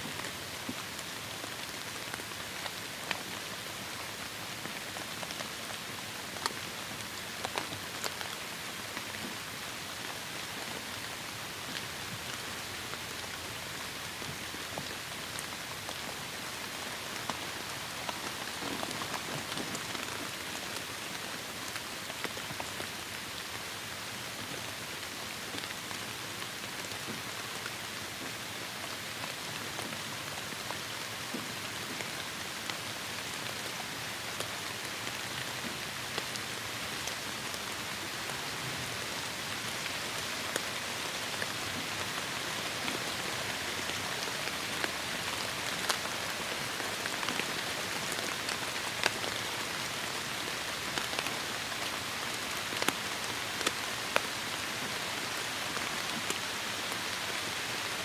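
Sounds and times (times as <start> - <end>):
heavy rain falling: 0.0 - 23.5, 29.4 - 58.0
raindrops ticking on a surface: 0.0 - 58.0.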